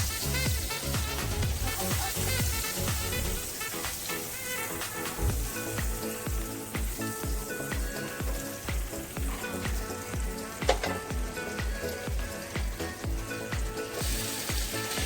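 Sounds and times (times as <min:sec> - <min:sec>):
background music with kick drum: 0:00.0 - 0:15.0
oil sizzling in a frying pan: 0:00.0 - 0:15.0.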